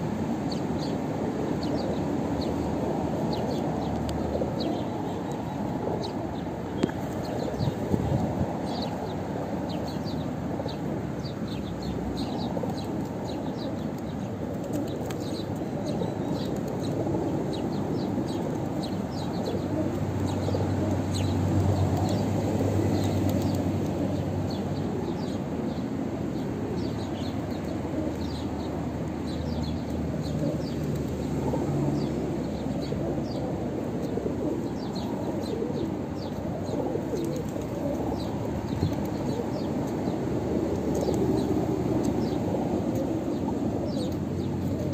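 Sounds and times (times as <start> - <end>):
pigeons cooing: 1.4 - 10.9, 11.8 - 25.4, 26.7 - 44.9.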